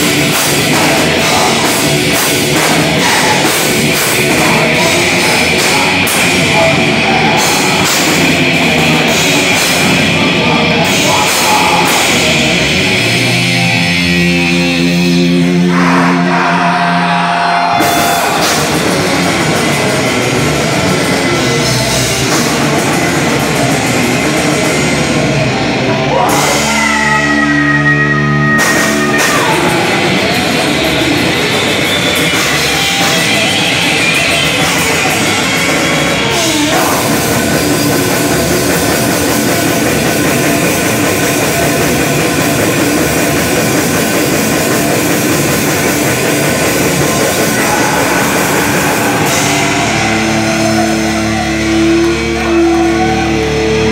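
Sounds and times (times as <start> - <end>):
vocalist: 0.0 - 23.9, 24.6 - 53.9
bass guitar: 0.0 - 53.9
distorted electric guitars: 0.0 - 53.9
pounding drum kit: 0.0 - 53.9.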